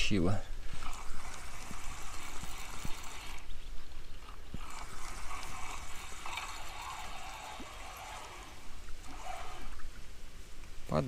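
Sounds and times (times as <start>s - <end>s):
fishing reel whirring: 0.6s - 10.0s.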